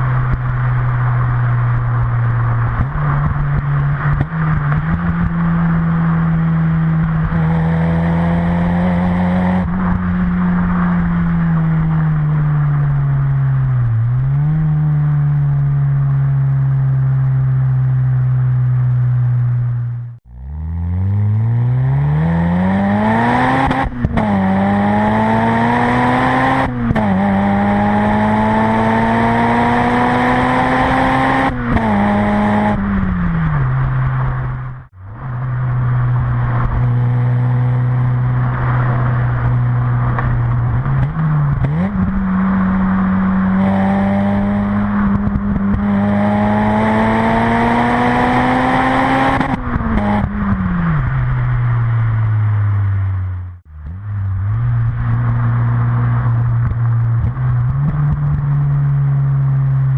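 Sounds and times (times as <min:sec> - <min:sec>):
car engine revving through exhaust: 0:00.0 - 0:59.9.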